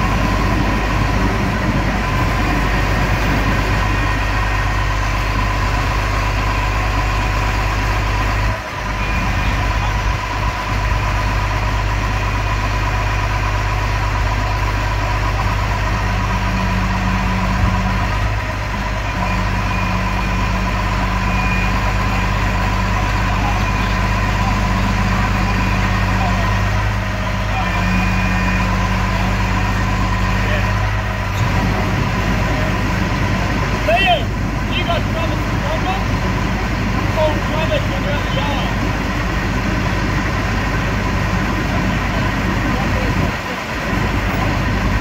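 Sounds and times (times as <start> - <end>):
truck diesel engine idling: 0.0 - 45.0.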